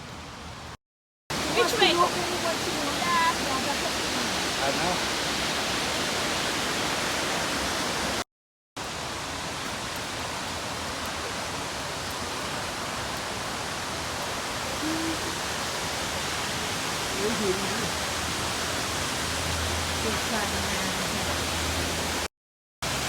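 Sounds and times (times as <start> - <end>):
waterfall roaring: 1.3 - 8.2, 8.8 - 23.0.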